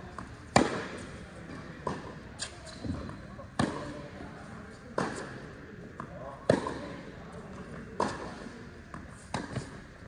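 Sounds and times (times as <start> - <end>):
rackets striking tennis ball: 0.0 - 10.0
tennis ball bouncing: 0.1 - 4.3, 4.9 - 9.9.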